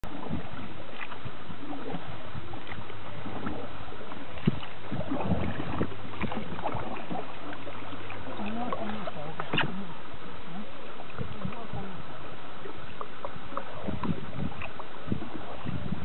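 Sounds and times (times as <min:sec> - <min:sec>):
paddle splashing in water: 0:00.0 - 0:16.0
water noise: 0:00.0 - 0:16.0.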